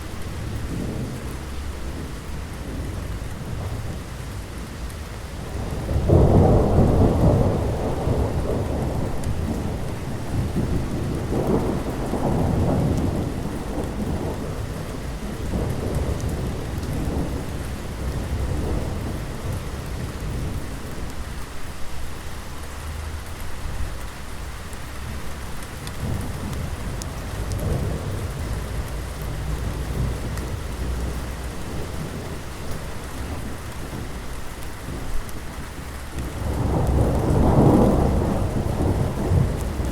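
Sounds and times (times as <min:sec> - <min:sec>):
steady rain falling: 0:00.0 - 0:39.9
thunder rumbling: 0:00.0 - 0:39.9.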